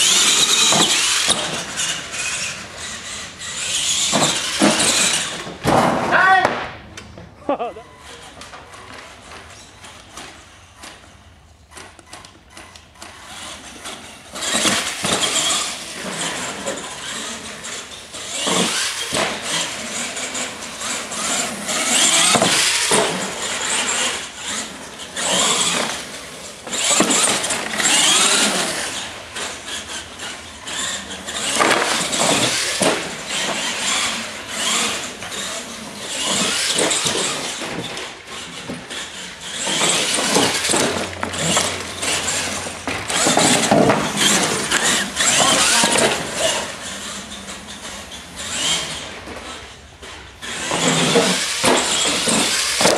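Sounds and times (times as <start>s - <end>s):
toy truck motor whining: 0.0s - 5.6s, 7.6s - 52.9s
tyres squealing on concrete: 0.0s - 6.6s, 7.5s - 52.9s.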